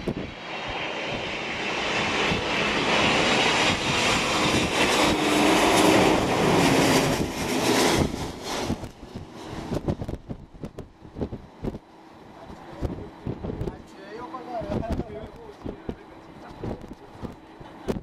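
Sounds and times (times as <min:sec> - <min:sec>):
jet engine whine and rumble: 0:00.0 - 0:18.0.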